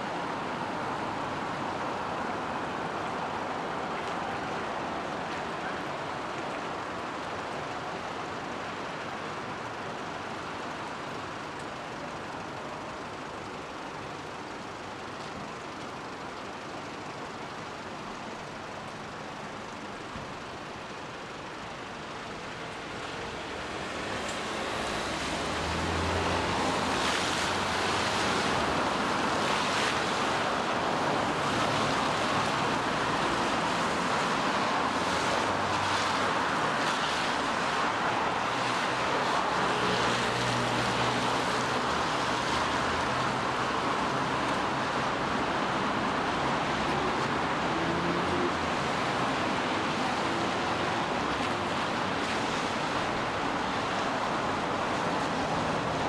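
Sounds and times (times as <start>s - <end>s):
faint city traffic hum: 0.0s - 56.0s
steady rain falling: 0.2s - 56.0s.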